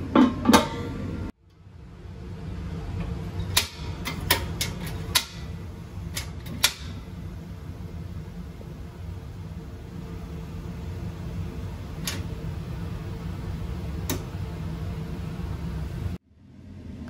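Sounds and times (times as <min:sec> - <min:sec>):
low hum: 0:00.8 - 0:17.0.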